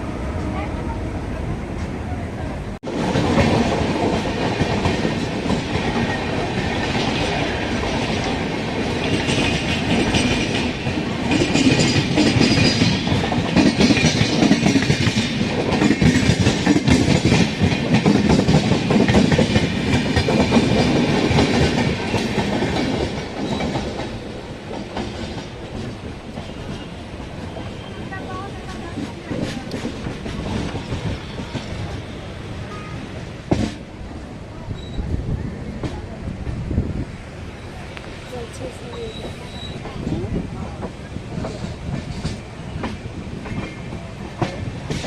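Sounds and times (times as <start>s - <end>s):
train rumble: 0.0s - 45.0s
train wheels clattering over rail joints: 2.8s - 32.2s, 33.2s - 34.0s, 38.5s - 45.0s.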